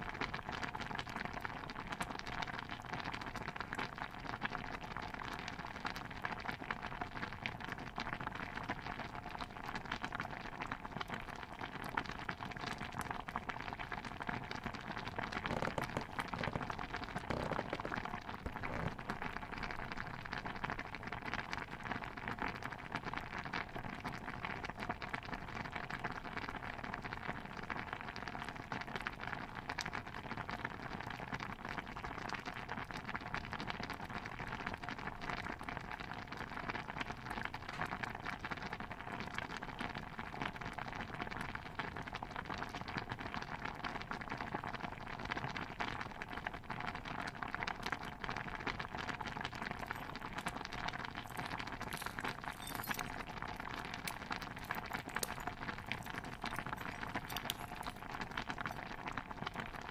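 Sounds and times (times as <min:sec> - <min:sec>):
stew bubbling in a pot: 0:00.0 - 0:59.9.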